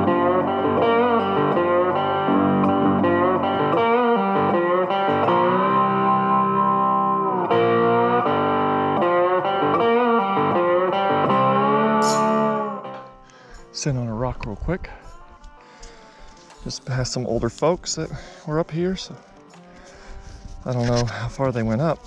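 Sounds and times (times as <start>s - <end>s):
guitar background music: 0.0s - 22.0s.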